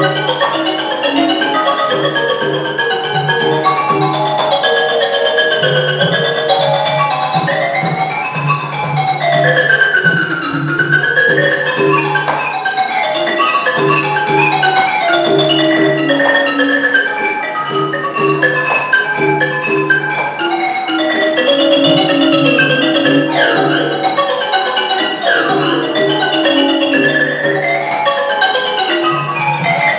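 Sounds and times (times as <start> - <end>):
goblet hand drum: 0.0 - 29.9
xylophone fast runs: 0.0 - 29.9.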